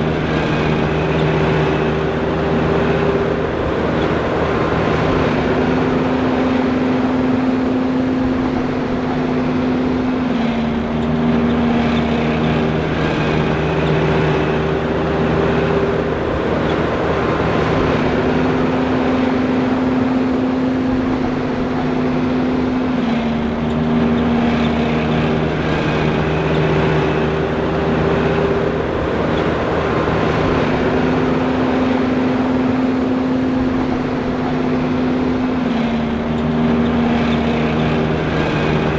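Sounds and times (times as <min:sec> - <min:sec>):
forage harvester running: 0:00.0 - 0:38.9.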